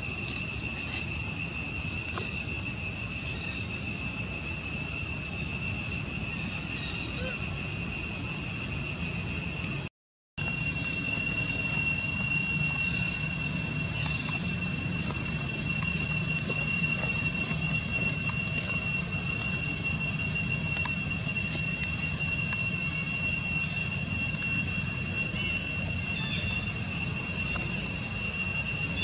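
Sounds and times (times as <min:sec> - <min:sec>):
high-pitched insect drone: 0:00.0 - 0:29.0.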